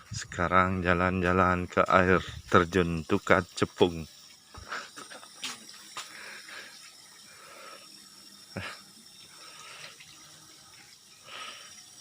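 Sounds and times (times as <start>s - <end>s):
faint running water: 0.0s - 12.0s.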